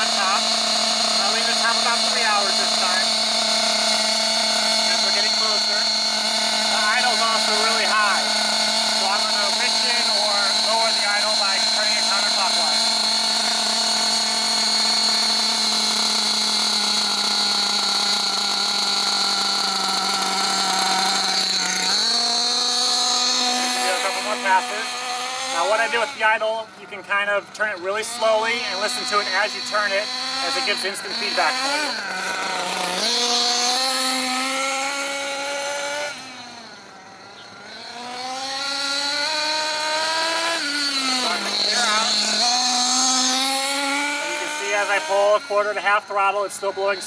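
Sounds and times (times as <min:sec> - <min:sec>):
model engine idling with high buzz: 0:00.0 - 0:47.0.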